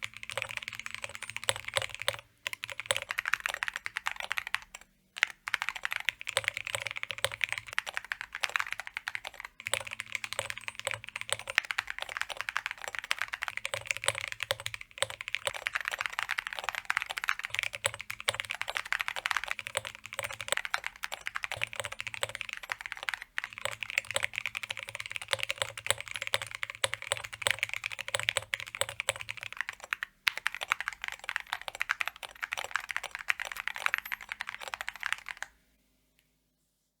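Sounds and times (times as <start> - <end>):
fast mechanical keyboard typing: 0.0 - 35.6.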